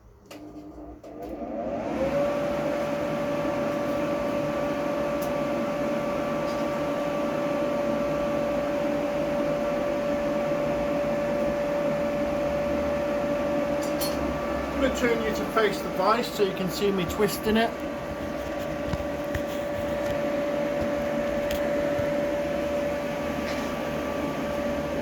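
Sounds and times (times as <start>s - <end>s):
blower motor whine: 0.3s - 25.0s.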